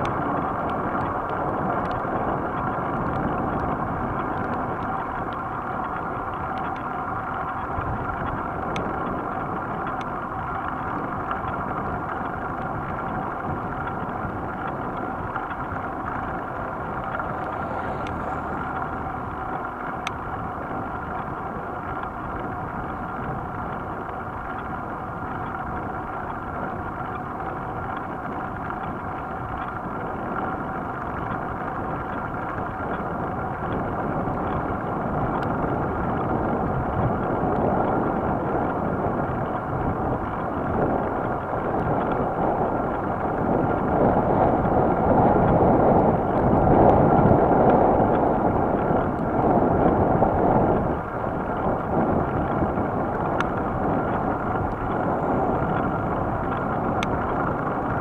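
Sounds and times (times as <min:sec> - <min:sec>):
bicycle tyres rolling on asphalt: 0:00.0 - 0:58.0
wind rushing over microphone: 0:00.0 - 0:58.0.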